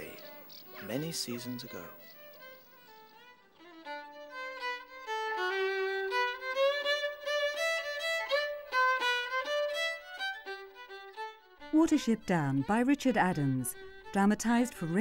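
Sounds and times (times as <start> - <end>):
fiddle playing slow melody: 0.0 - 15.0.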